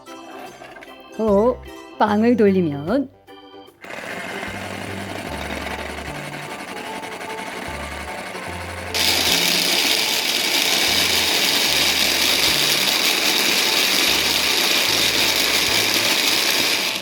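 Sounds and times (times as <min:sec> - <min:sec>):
toy blender motor whirring: 0:00.0 - 0:01.2, 0:03.8 - 0:17.0
background music: 0:00.0 - 0:17.0.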